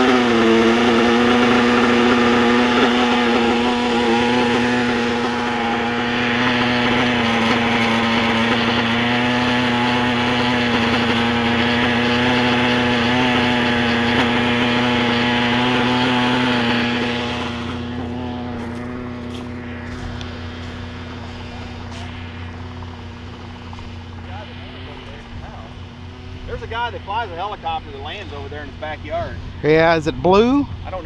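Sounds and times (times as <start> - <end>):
model helicopter rotor whine: 0.0 - 31.0.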